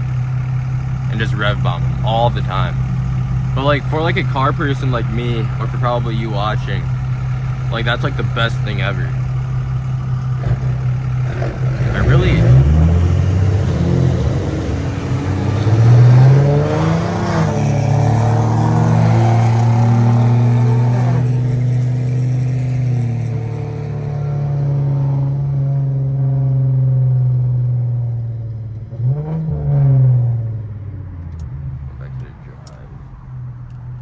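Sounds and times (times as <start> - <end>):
car engine through loud exhaust: 0.0 - 34.0.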